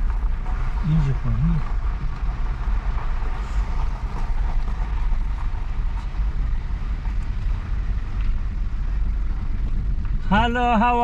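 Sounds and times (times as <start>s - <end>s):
car driving slowly rumble: 0.0s - 11.0s
tyres ticking on gravel: 0.0s - 11.0s.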